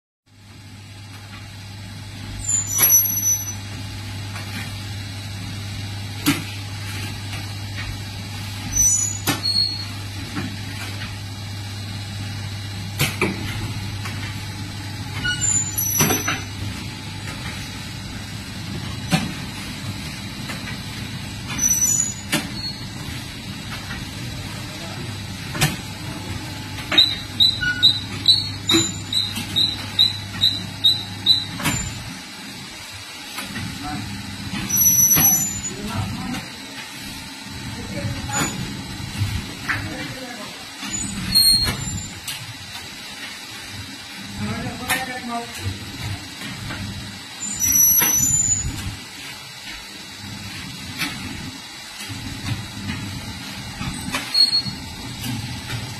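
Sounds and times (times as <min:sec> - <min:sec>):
packaging machine humming: 0:00.5 - 0:55.9.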